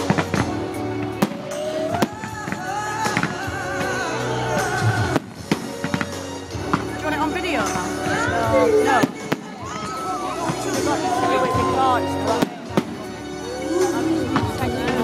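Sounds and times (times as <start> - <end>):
fireworks bangs: 0.0 - 13.2
loud music: 0.0 - 15.0.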